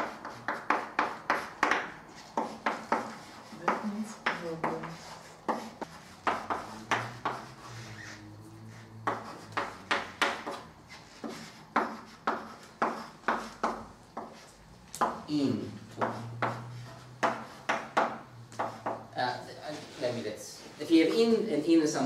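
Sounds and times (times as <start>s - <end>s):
chalk writing on a blackboard: 0.0s - 21.1s.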